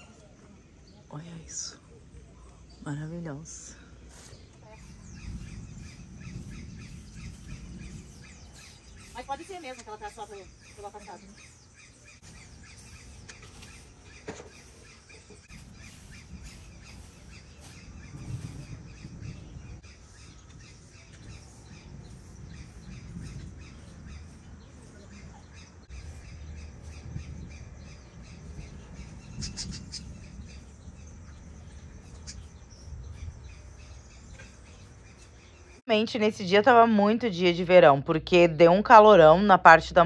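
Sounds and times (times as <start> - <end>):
low uneven rumble: 0.0 - 35.8
birds squawking and calling: 0.9 - 35.8.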